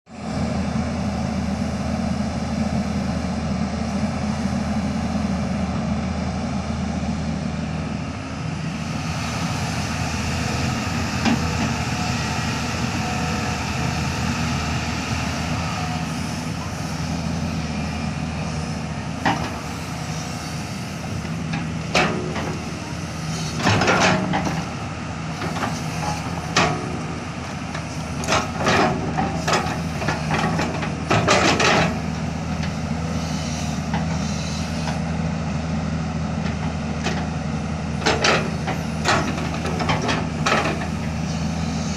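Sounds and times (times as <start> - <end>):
diesel engine running under load: 0.1 - 41.9.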